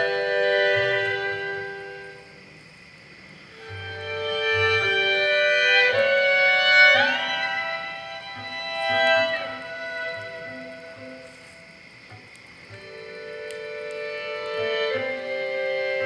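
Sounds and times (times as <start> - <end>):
violin melody: 0.0 - 2.2, 3.5 - 16.0.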